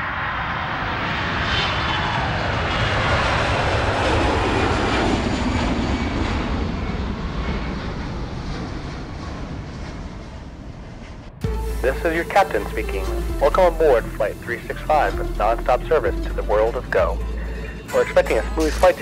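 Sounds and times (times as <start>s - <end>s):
jet airliner taking off: 0.0s - 19.0s.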